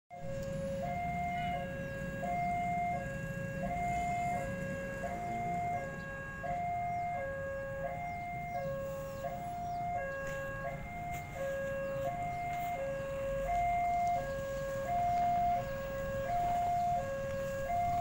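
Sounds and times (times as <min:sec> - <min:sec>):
two-tone crossing alarm: 0:00.1 - 0:18.0.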